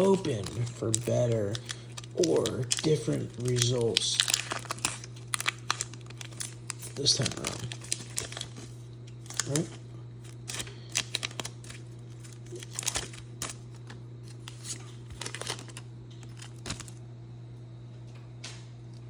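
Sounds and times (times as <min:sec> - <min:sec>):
foil wrapper tearing and crinkling: 0:00.0 - 0:17.0
steady low hum: 0:00.0 - 0:19.0.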